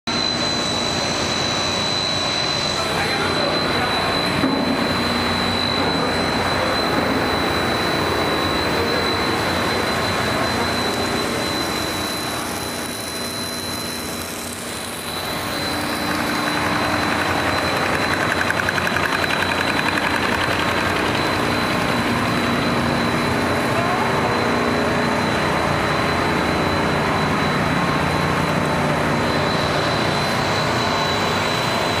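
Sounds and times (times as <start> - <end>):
constant high whine: 0.1 - 32.0
production line machinery din: 0.1 - 32.0.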